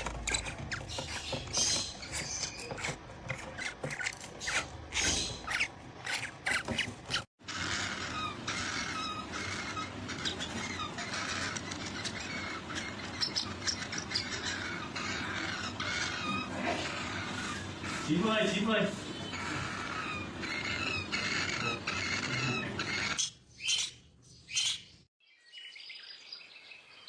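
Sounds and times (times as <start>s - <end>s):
parrot squawking: 0.0s - 25.0s.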